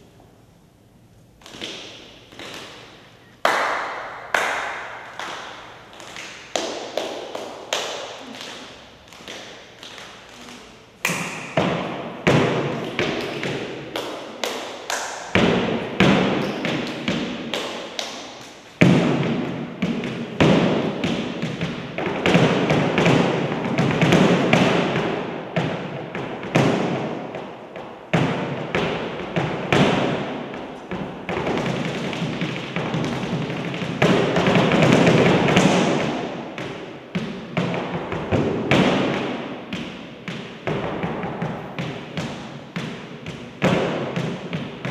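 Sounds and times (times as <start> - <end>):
flamenco footwork on platform: 1.4 - 44.9
hand claps and slaps: 1.4 - 44.9.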